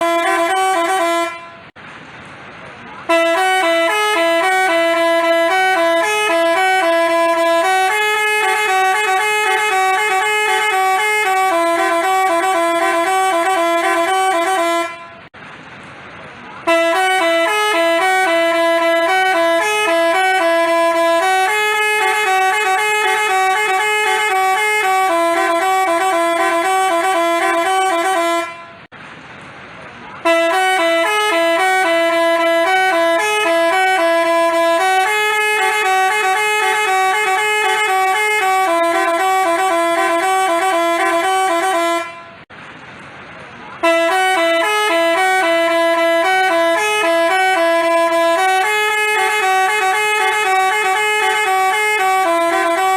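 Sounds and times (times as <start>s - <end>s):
multi-tone bus horn melody: 0.0s - 1.8s, 2.9s - 15.4s, 16.5s - 28.9s, 30.1s - 42.5s, 43.7s - 52.9s.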